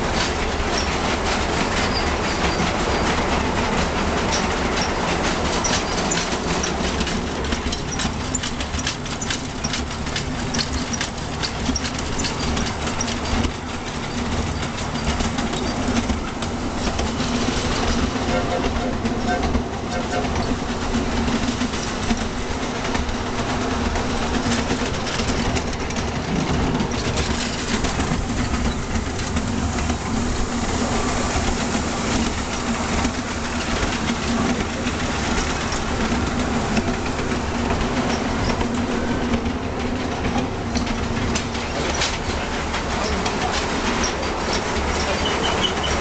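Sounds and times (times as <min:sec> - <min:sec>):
miniature train humming: 0:00.0 - 0:46.0
wheels clicking over rail joints: 0:00.0 - 0:46.0.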